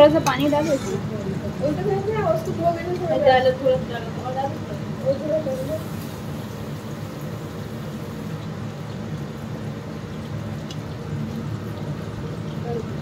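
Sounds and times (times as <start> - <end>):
curry cooking on stove: 0.0 - 13.0.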